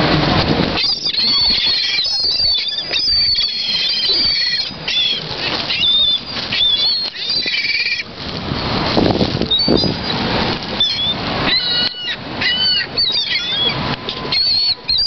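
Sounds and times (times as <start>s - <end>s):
gulls crying: 0.0s - 15.0s
gulls flapping wings: 0.0s - 15.0s.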